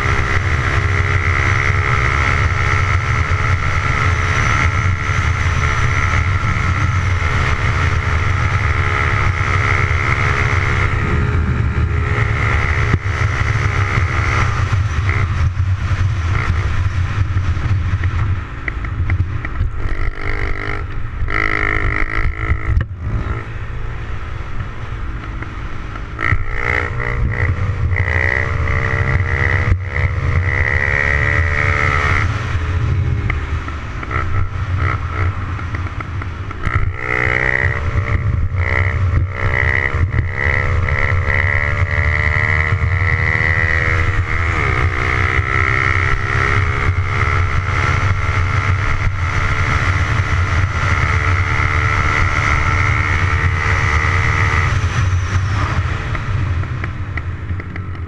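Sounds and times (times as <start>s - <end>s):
motorcycle engine running: 0.0s - 58.0s
wind rumble on microphone: 0.0s - 58.0s.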